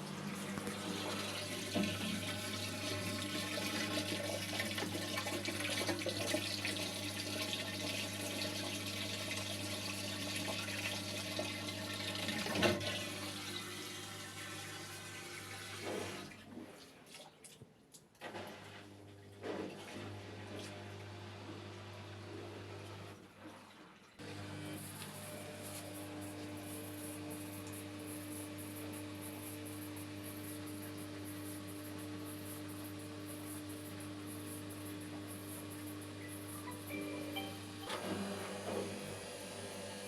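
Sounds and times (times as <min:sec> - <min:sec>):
drain pump humming: 0:00.0 - 0:16.4, 0:24.2 - 0:40.0.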